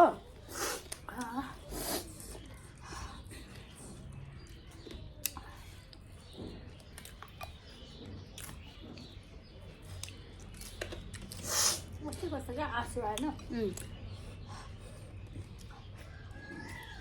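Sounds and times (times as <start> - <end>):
chewing with wet mouth noises: 0.2 - 17.0.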